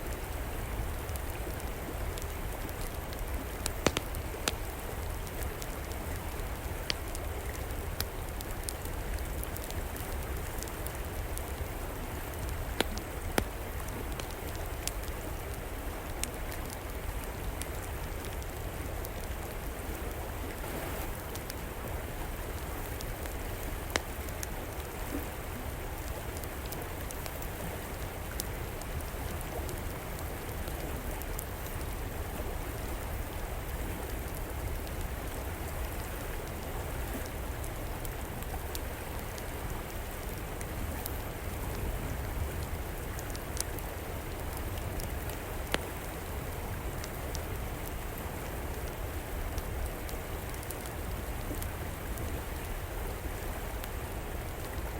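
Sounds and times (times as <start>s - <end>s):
wood fire crackling and popping: 0.1s - 19.6s, 20.5s - 31.9s, 32.9s - 48.1s, 48.8s - 52.8s.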